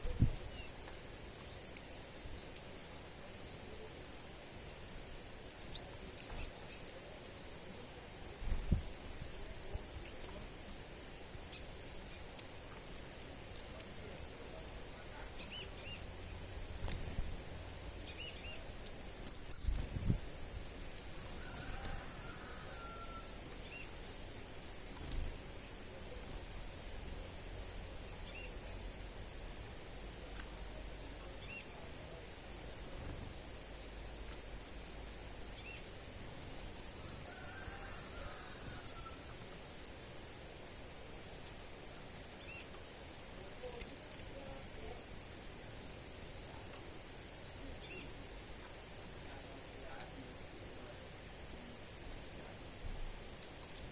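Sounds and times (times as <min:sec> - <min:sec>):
small birds chirping: 0:00.0 - 0:53.9
steady high hiss: 0:00.0 - 0:53.9.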